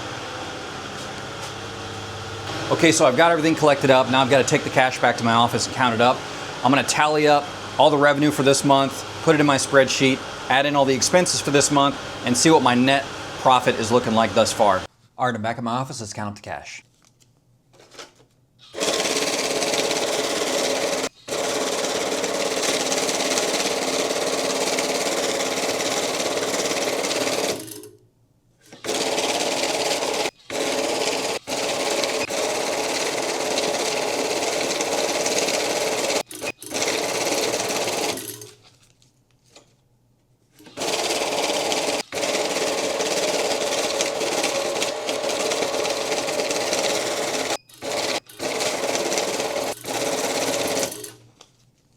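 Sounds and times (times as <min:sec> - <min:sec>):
banknote counting machine running: 0:02.0 - 0:14.9, 0:18.8 - 0:28.0, 0:28.8 - 0:38.6, 0:40.6 - 0:51.2.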